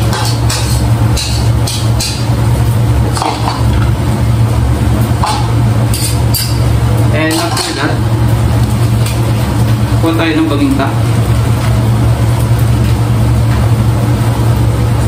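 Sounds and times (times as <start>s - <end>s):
loud low hum: 0.0s - 15.0s.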